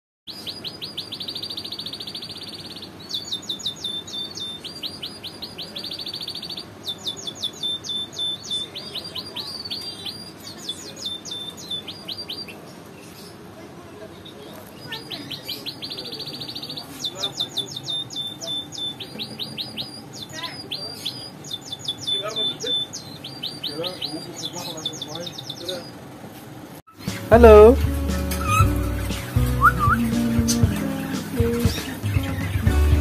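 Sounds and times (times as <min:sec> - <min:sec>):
canary singing trills: 0:00.3 - 0:13.5, 0:14.2 - 0:26.0, 0:26.9 - 0:33.0.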